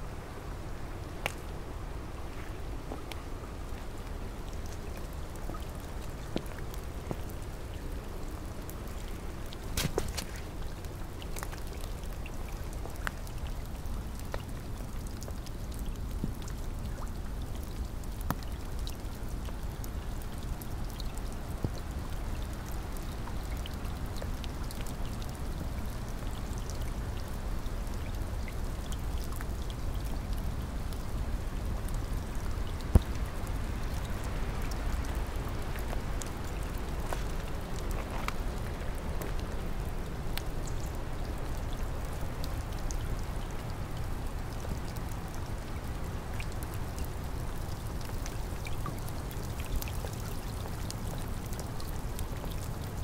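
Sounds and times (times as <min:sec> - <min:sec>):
steady rain hiss: 0:00.0 - 0:53.0
raindrops ticking close by: 0:00.2 - 0:53.0.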